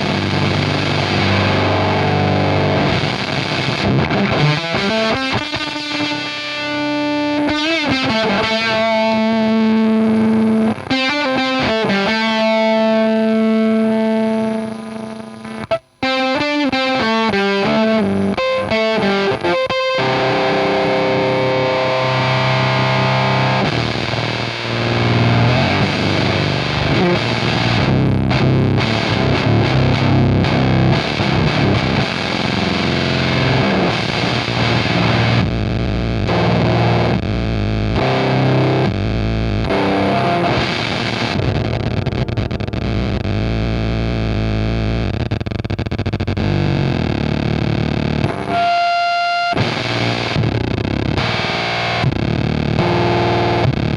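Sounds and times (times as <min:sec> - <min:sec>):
distorted electric guitar chords: 0:00.0 - 0:53.9
fuzz pedal noise feedback: 0:00.0 - 0:53.9.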